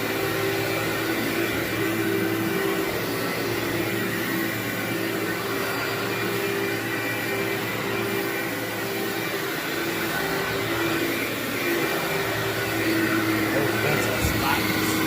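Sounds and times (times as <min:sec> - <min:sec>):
vacuum cleaner running on carpet: 0:00.0 - 0:15.0.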